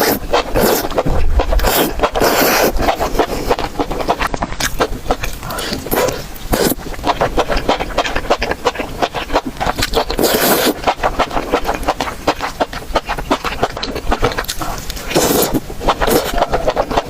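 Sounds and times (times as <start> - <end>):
person chewing wetly: 0.0 - 17.0.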